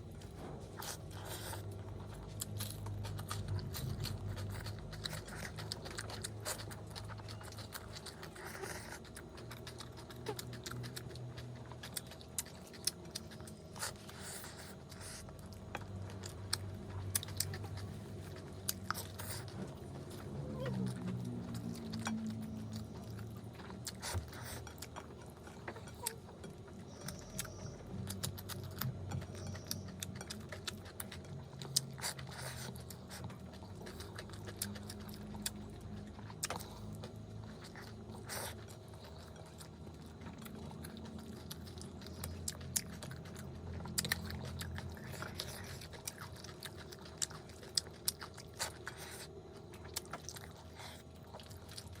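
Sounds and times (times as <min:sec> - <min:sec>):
chewing and crunching food: 0:00.0 - 0:52.0
low steady hum: 0:00.0 - 0:52.0.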